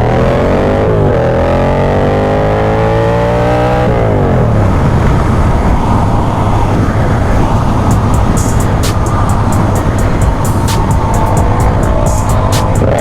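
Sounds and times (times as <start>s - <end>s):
motorcycle engine accelerating: 0.0s - 13.0s
steady rushing noise: 0.0s - 13.0s.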